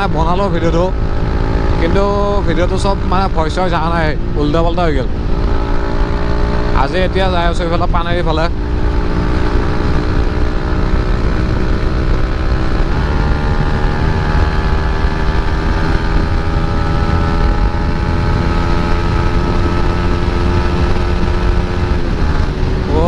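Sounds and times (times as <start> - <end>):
motorcycle engine cruising: 0.0 - 23.0
wind rushing over microphone: 0.0 - 23.0.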